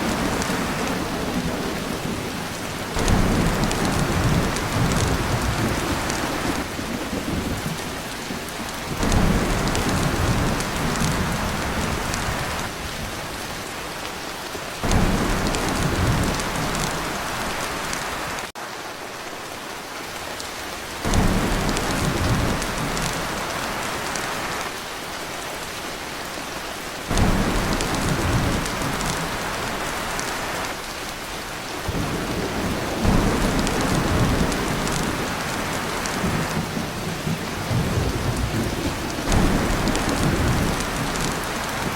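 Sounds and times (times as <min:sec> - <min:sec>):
thunder rumbling: 0:00.0 - 0:13.5, 0:14.8 - 0:18.5, 0:21.0 - 0:24.7, 0:27.1 - 0:30.7, 0:31.8 - 0:41.9
torrential rain on a tin roof: 0:00.0 - 0:41.9.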